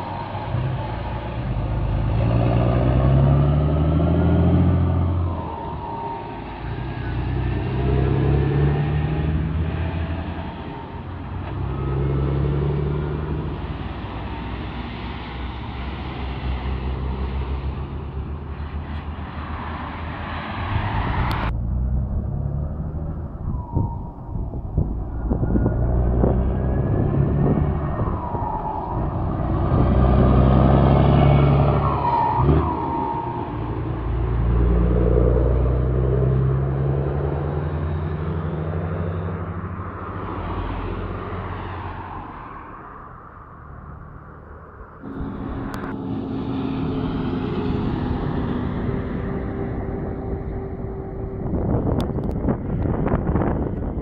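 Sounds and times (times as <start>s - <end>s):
cars passing: 0.0s - 54.0s
truck exhaust rumble: 0.0s - 54.0s.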